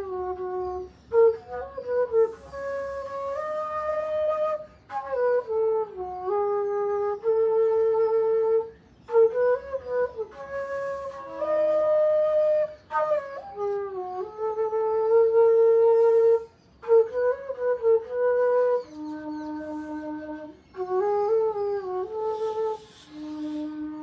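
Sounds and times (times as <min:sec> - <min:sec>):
solo flute melody: 0:00.0 - 0:24.0.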